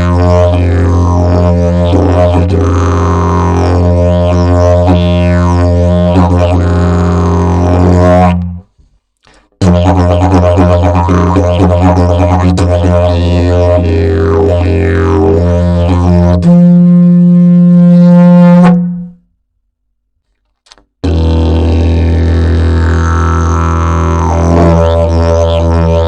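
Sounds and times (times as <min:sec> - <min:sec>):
didgeridoo drone: 0:00.0 - 0:08.6, 0:09.6 - 0:19.0, 0:21.0 - 0:26.0.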